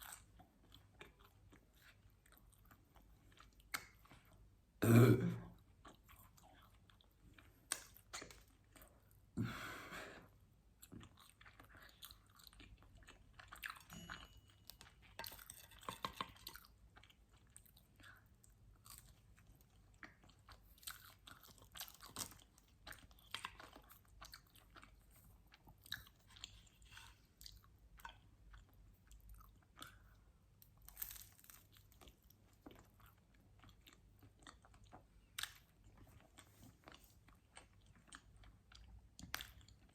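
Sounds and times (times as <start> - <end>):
chewing pizza: 0.0 - 39.9.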